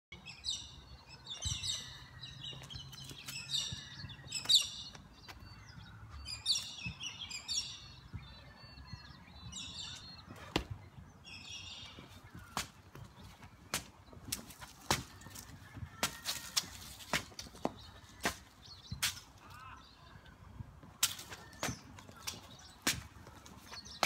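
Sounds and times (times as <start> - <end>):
birds chirping: 0.1 - 24.0.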